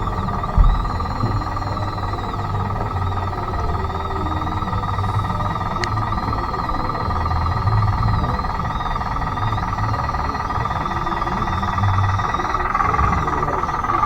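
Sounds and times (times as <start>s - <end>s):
electric motor and gearbox whine: 0.0s - 14.0s
uneven low rumble: 0.0s - 14.0s.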